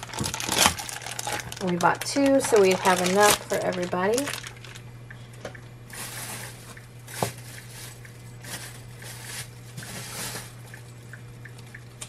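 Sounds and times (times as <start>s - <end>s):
rustling and handling noises: 0.0s - 4.8s, 5.9s - 10.8s
steady low hum: 0.0s - 12.0s.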